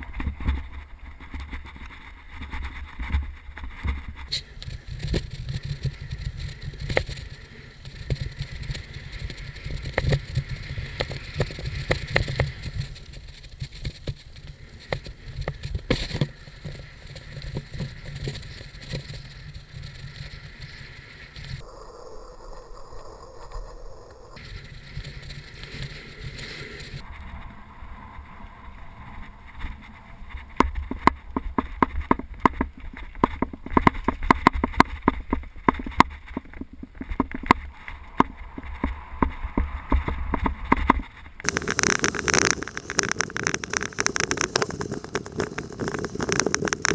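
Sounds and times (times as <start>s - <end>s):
bike rattling and clicking: 0.0s - 21.6s, 24.4s - 27.6s, 29.0s - 46.9s
bike tyres on dirt trail: 0.0s - 21.7s, 22.4s - 46.9s.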